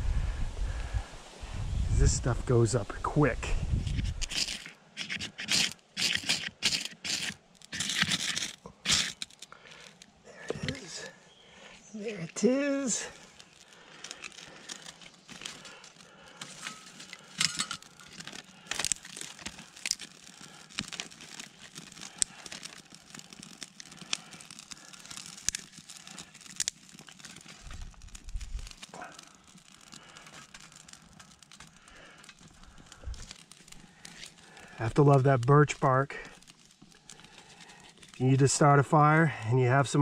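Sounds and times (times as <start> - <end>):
bark crackling as it burns: 2.0 - 40.0
crinkle of bark and twigs: 2.7 - 40.0
sharp snaps of fire: 3.2 - 39.2.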